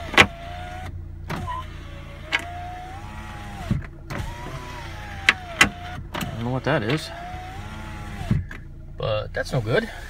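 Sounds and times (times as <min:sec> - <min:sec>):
power window motor whine: 0:00.0 - 0:08.7.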